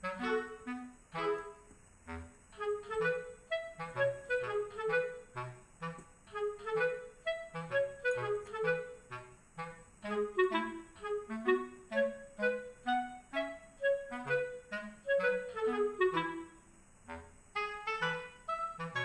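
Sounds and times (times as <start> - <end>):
bouncy woodwind tune: 0.0 - 19.0.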